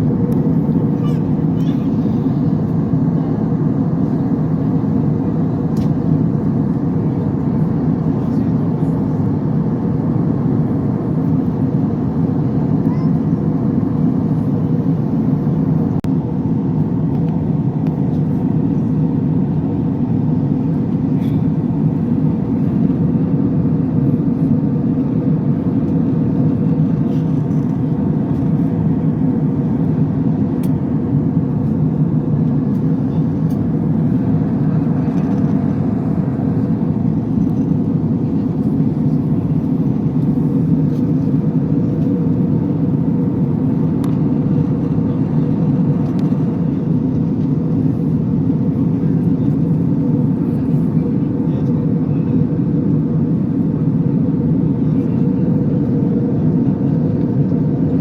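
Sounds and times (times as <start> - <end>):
airliner cabin engine drone: 0.0 - 58.0.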